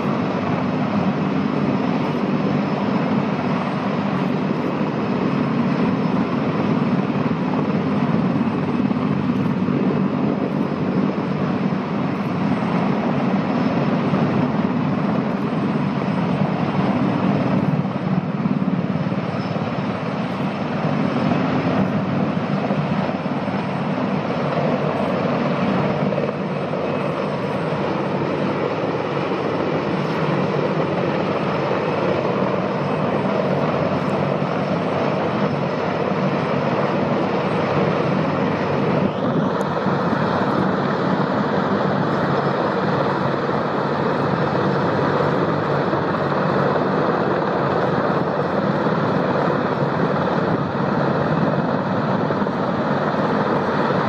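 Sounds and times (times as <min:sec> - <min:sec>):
helicopter rotor rumble: 0:00.0 - 0:54.0.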